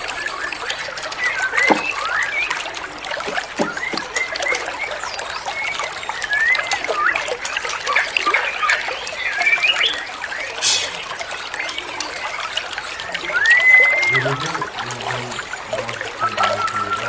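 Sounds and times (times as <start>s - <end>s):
songbirds singing: 0.0s - 17.0s
trickle of running water: 0.0s - 17.0s.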